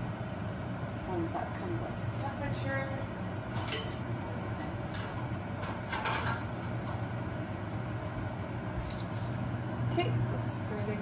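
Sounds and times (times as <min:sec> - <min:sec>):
cooktop humming: 0:00.0 - 0:11.0.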